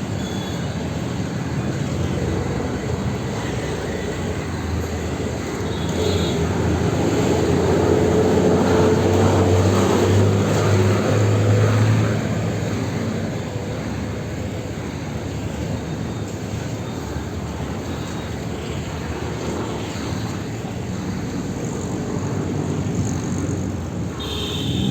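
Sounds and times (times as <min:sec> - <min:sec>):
street traffic: 0:00.0 - 0:24.9.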